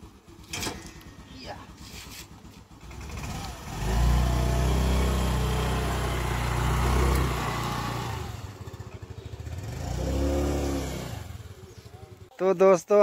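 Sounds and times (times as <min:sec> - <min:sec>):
motor scooter engine accelerating: 0:00.0 - 0:12.3.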